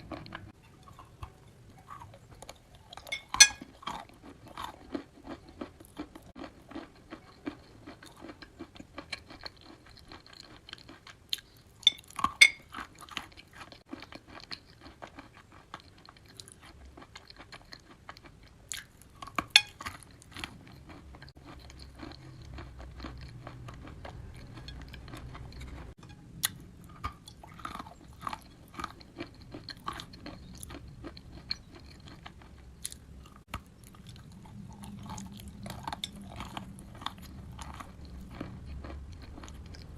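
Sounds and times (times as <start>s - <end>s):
chewing chalk crunches: 0.0s - 39.9s.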